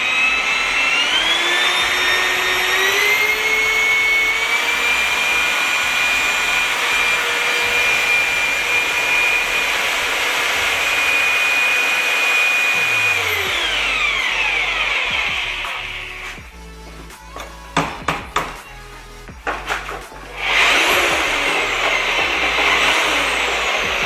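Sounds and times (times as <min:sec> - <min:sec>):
mortar mixer motor whining: 0:00.0 - 0:17.6, 0:19.3 - 0:24.0.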